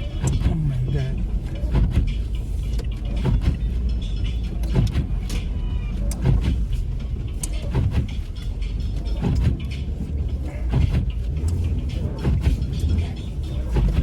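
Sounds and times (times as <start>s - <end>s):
car cabin low rumble: 0.0s - 14.0s.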